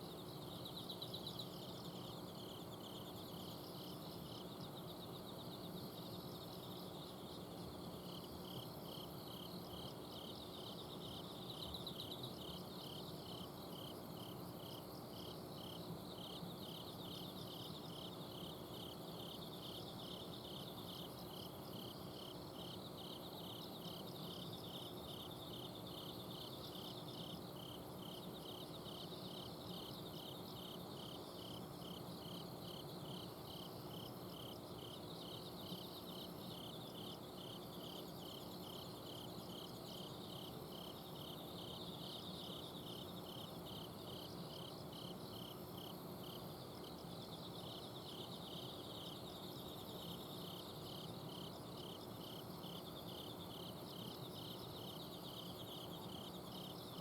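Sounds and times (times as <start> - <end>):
crickets chirping: 0.0 - 57.0
insects trilling: 0.0 - 57.0.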